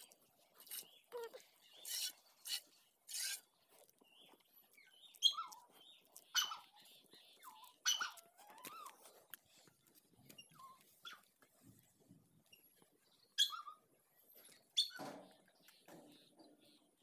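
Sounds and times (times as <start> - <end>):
high chirps and squeaks: 0.6 - 9.6, 10.2 - 11.3, 12.4 - 16.8.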